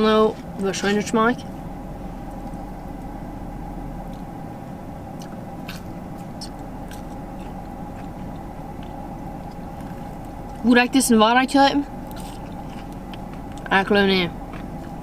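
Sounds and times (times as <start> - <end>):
steady background hum: 0.0 - 15.0
soft chewing: 0.4 - 4.4, 5.0 - 10.8, 11.8 - 15.0.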